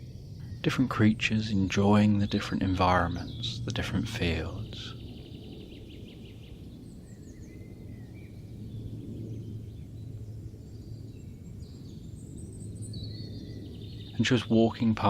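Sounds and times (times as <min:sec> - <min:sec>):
faint birdsong: 0:00.0 - 0:15.0
steady low hum: 0:00.0 - 0:15.0.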